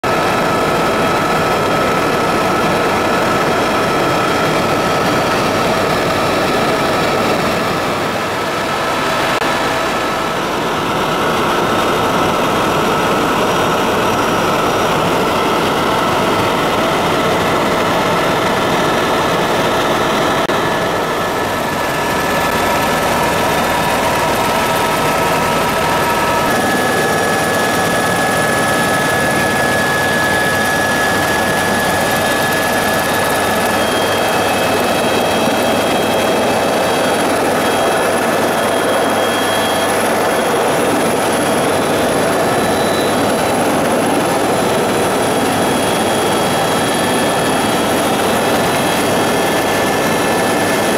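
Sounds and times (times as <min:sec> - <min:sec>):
helicopter turbine and rotors: 0:00.0 - 0:50.9.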